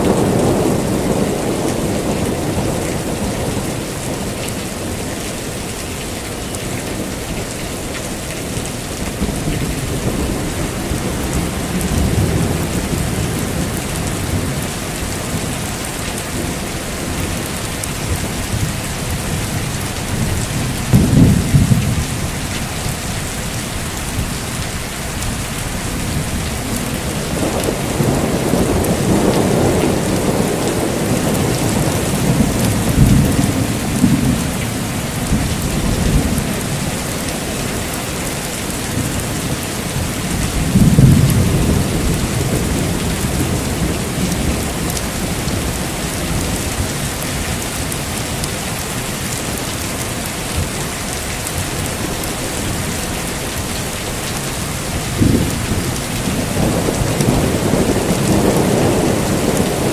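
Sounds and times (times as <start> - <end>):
thunder rumbling and clapping: 0.0 - 5.6, 6.7 - 49.4, 54.5 - 59.9
heavy rain: 0.0 - 59.9.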